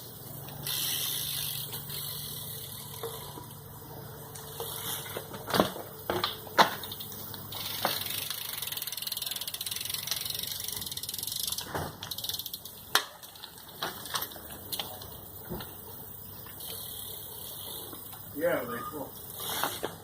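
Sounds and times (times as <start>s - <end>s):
bike hub ratcheting clicks: 0.0s - 5.4s, 6.0s - 20.0s.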